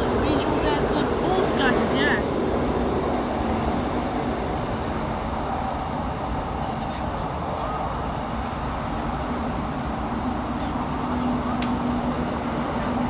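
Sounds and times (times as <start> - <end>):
diesel engine: 0.0 - 13.0
train wheels rumbling on rails: 0.0 - 13.0.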